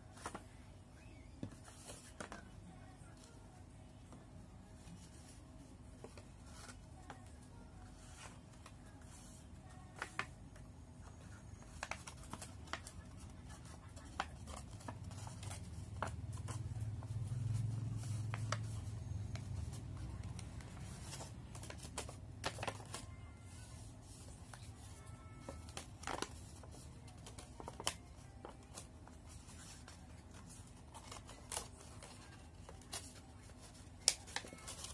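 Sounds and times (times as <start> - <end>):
paper crinkling and creasing: 0.1 - 3.4, 4.8 - 10.4, 11.0 - 34.9.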